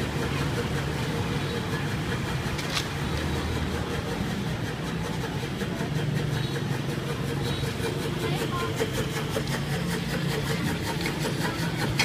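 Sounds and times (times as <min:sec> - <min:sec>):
passing street traffic: 0:00.0 - 0:12.0
vehicle engines running: 0:00.0 - 0:12.0.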